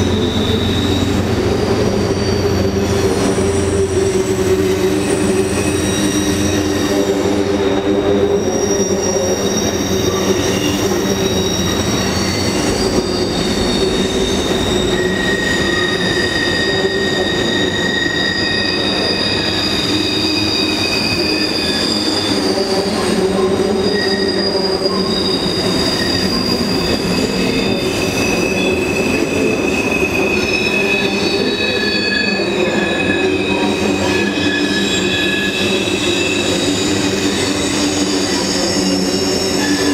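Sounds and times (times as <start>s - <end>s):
freight train wheels rumbling: 0.0s - 39.9s
high-pitched wheel squeal: 0.0s - 39.9s.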